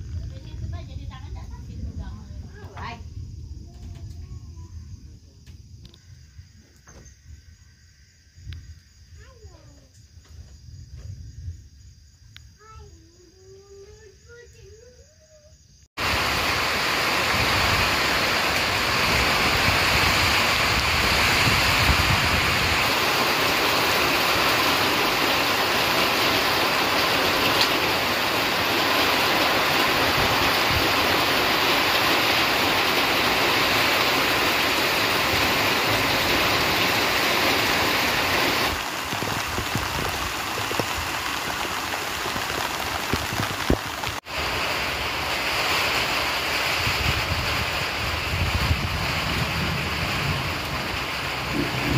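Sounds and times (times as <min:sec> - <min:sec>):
heavy rain hissing: 0:00.0 - 0:06.6, 0:12.6 - 0:51.9.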